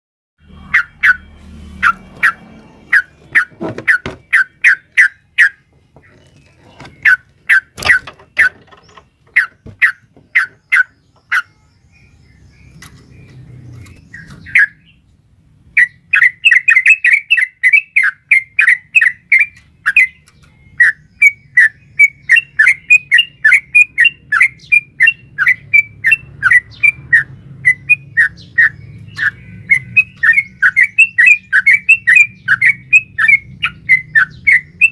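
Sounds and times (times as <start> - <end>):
bird chirping: 0.4 - 34.9.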